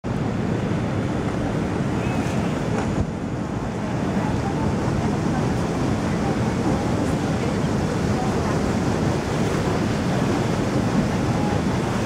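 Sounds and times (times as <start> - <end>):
water rushing along hull: 0.0 - 12.0
wind buffeting microphone: 0.1 - 12.0.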